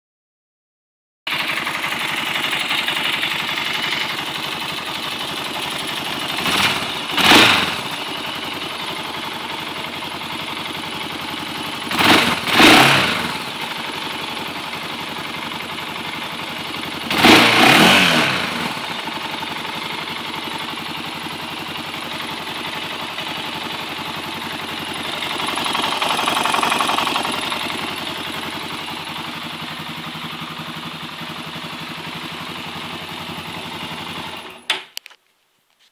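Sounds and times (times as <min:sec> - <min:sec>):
atv engine idling and revving: 0:01.3 - 0:34.7.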